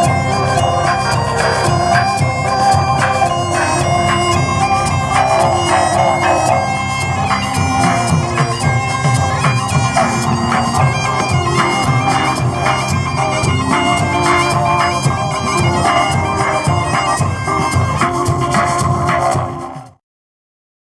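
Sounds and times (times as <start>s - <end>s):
band drums beating: 0.0s - 19.6s
bagpipes playing melody: 0.0s - 19.8s.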